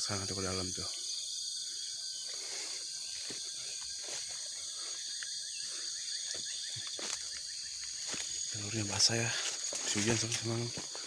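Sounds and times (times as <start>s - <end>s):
insects buzzing chorus: 0.0s - 11.0s.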